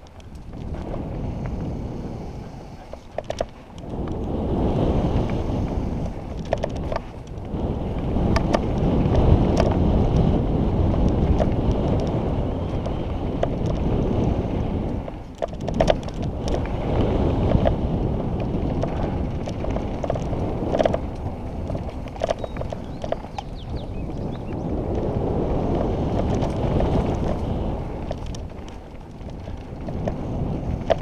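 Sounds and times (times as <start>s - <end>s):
stones and bike clattering: 0.0s - 1.8s, 2.8s - 4.4s, 5.2s - 31.0s
bike tyres rumbling on ground: 0.0s - 31.0s
wind rushing over microphone: 0.0s - 31.0s.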